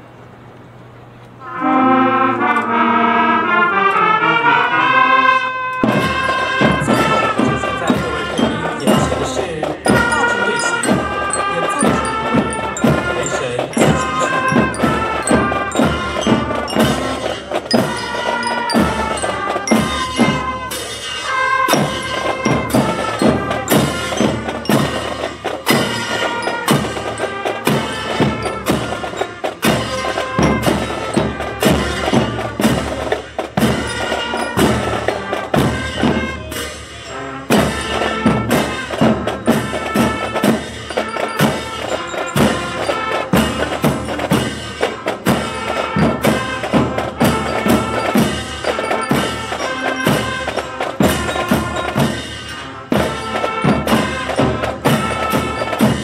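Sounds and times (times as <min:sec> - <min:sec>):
held brass notes: 0:01.3 - 0:56.0
rapid drum strokes: 0:05.8 - 0:56.0.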